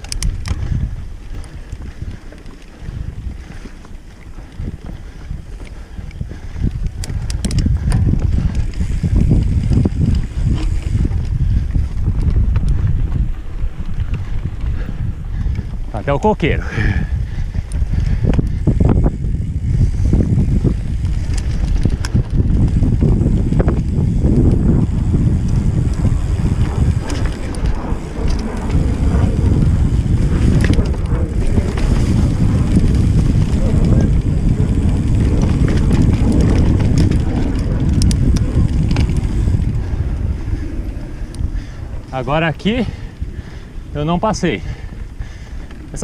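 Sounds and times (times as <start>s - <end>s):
small clicks and rattles: 0.0s - 13.2s, 17.5s - 42.9s
wind rumbling on microphone: 0.0s - 46.0s.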